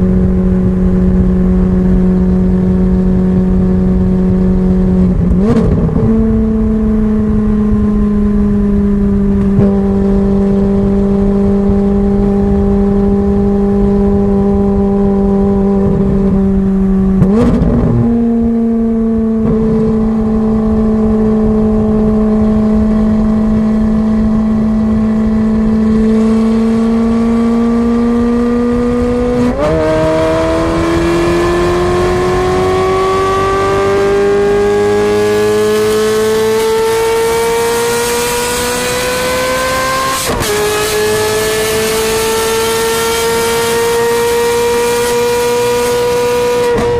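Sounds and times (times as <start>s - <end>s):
car exhaust revving: 0.0s - 46.9s.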